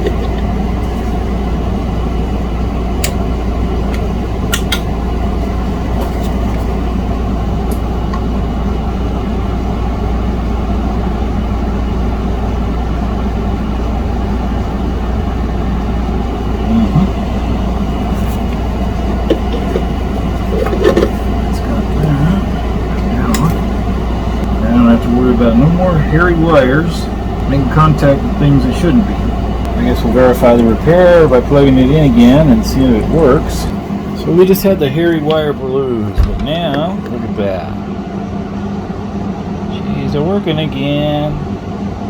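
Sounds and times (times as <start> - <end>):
fan rushing with deep hum: 0.0 - 42.0.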